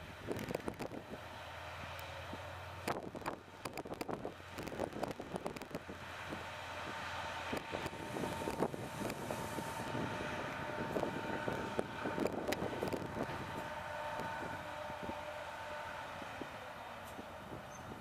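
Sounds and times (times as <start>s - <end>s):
diesel locomotive engine rumble: 0.0s - 18.0s
steady whine: 2.0s - 17.6s.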